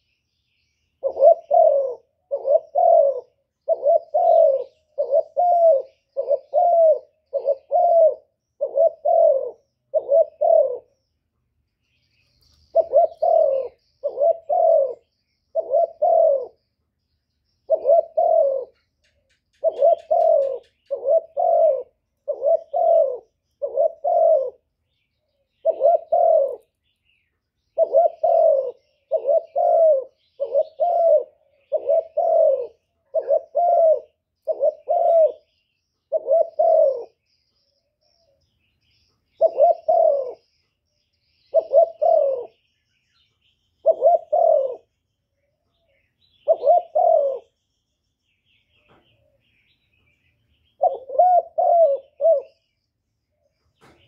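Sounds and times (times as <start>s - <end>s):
dove cooing: 1.0s - 11.1s, 12.6s - 16.7s, 17.6s - 26.8s, 27.6s - 45.0s, 45.6s - 47.6s, 50.5s - 52.7s.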